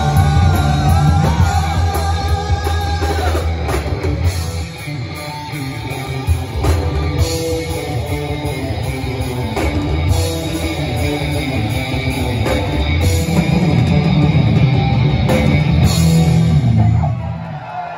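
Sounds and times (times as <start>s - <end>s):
live rock band playing: 0.0s - 17.9s.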